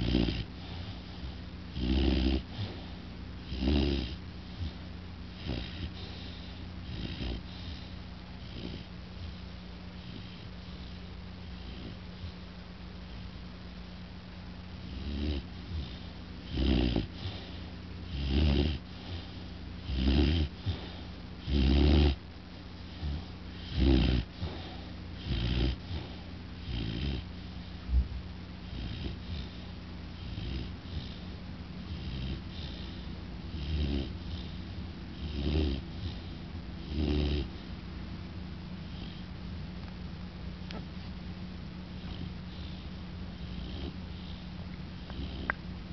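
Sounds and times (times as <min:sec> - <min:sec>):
puppy snoring loudly: 0:00.0 - 0:09.4, 0:10.0 - 0:12.4, 0:14.8 - 0:22.3, 0:22.9 - 0:27.8, 0:28.6 - 0:37.8, 0:38.8 - 0:39.3, 0:41.9 - 0:45.9.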